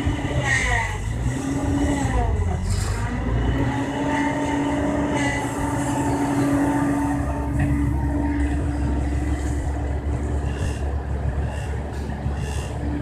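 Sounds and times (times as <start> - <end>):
excavator engine and hydraulics: 0.0 - 13.0.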